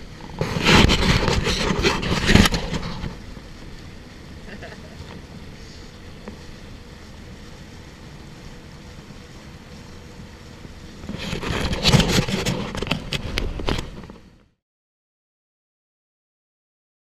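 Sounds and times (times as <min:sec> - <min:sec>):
water rushing along a hull: 0:00.0 - 0:14.2
faint outboard motor: 0:00.0 - 0:14.6.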